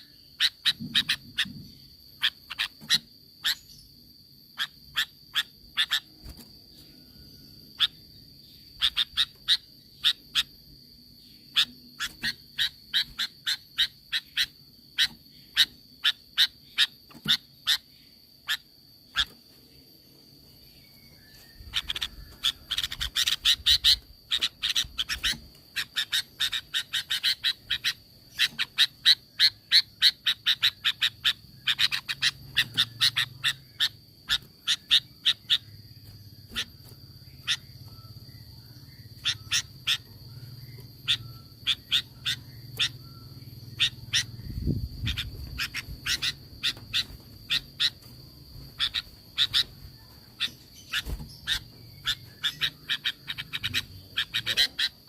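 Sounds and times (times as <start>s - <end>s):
bird chattering calls: 0.0s - 3.8s, 4.6s - 6.3s, 7.7s - 10.6s, 11.4s - 19.4s, 21.2s - 55.0s.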